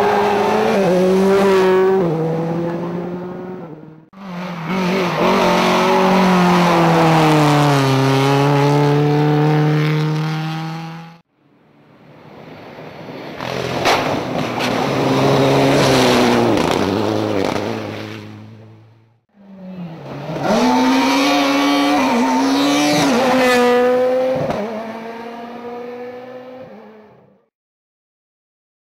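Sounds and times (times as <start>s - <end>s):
rally car engines at full throttle: 0.0s - 11.2s, 12.6s - 27.4s.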